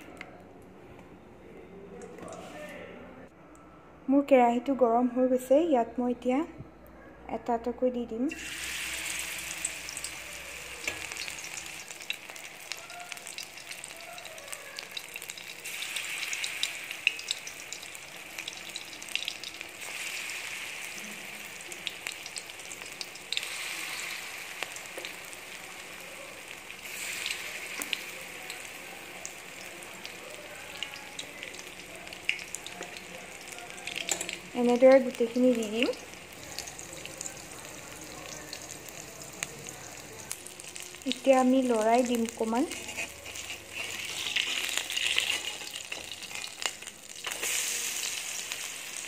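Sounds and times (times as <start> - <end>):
batter sizzling in hot oil: 8.3 - 49.0.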